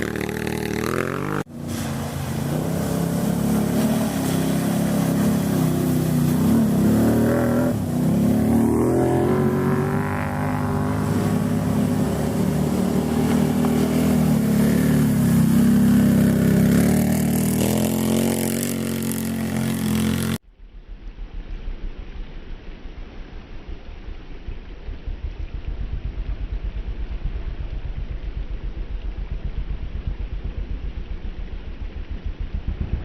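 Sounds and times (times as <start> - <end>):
low pulsing engine: 0.0 - 33.0.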